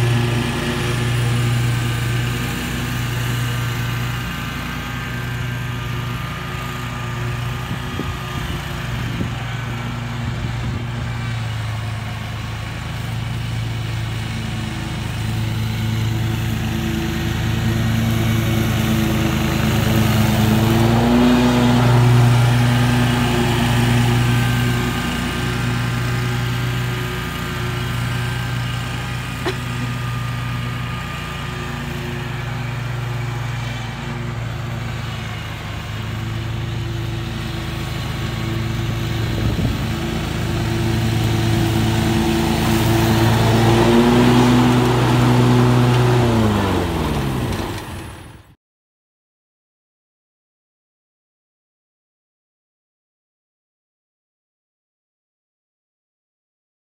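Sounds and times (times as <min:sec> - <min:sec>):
riding mower running: 0:00.0 - 0:48.6.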